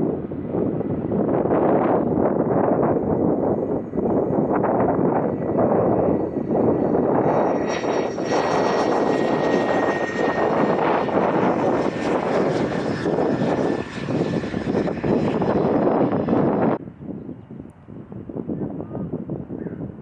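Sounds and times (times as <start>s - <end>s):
airplane engine running: 0.0s - 17.0s.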